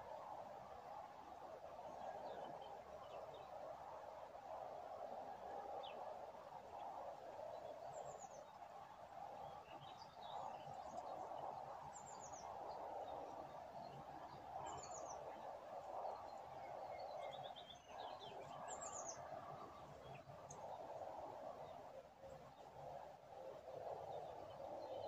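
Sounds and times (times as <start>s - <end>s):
steady low background hiss: 0.0s - 25.0s
songbirds chirping: 0.9s - 25.0s.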